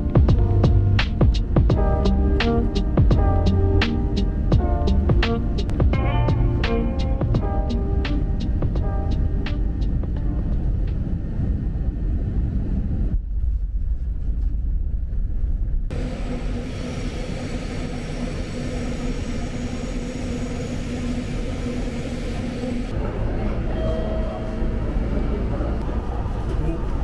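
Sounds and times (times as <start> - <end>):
jet airliner cabin rumble: 0.0 - 27.0
subway train running noise: 0.0 - 27.0.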